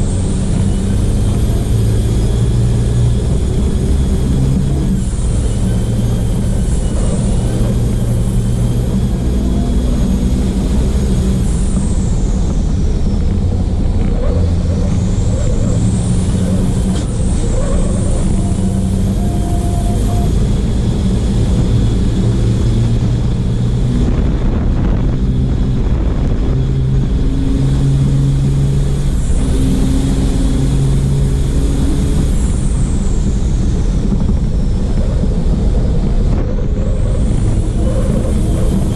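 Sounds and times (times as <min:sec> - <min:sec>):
diesel truck engine running hard: 0:00.0 - 0:38.9
wind and road noise: 0:00.0 - 0:38.9.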